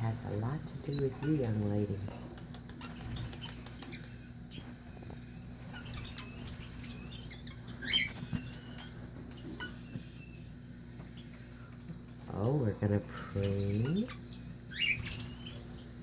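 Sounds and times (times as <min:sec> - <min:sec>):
parakeet chirping: 0:00.1 - 0:11.4, 0:13.2 - 0:16.0.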